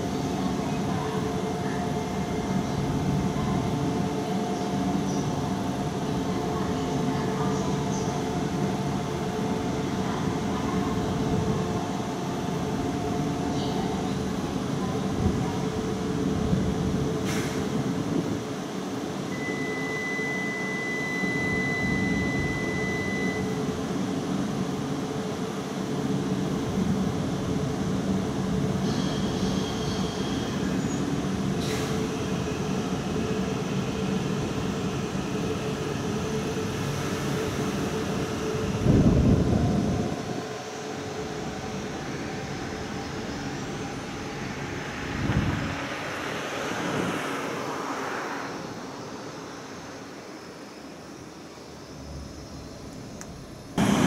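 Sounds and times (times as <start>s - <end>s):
train equipment hum: 0.0s - 54.0s.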